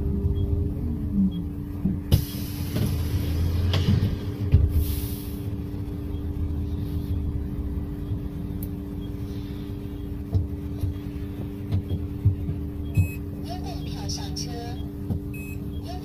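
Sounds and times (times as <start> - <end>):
bus cabin hum with low rumble: 0.0 - 16.0.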